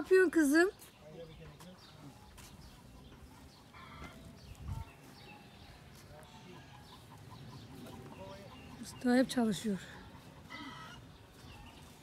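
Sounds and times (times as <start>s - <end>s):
chickens clucking: 1.3s - 12.0s.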